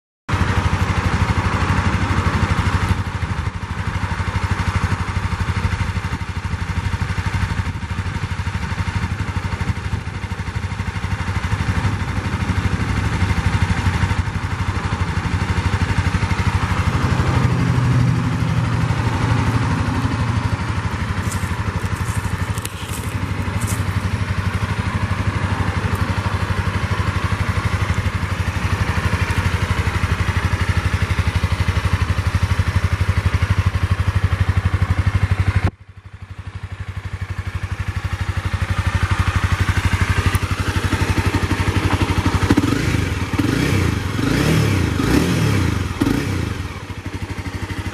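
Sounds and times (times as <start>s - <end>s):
motorcycle engine idling: 0.3s - 47.9s.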